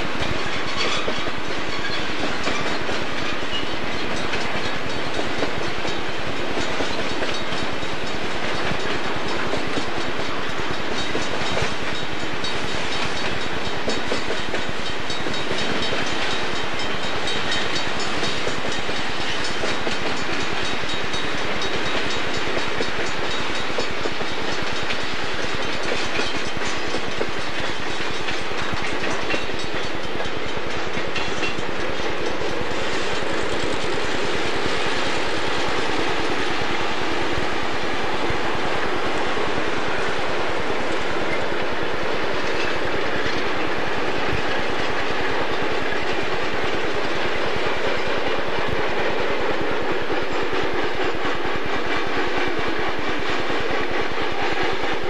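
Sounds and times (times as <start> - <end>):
freight train rumbling past: 0.0 - 55.0
wheels clattering on rails: 0.0 - 55.0.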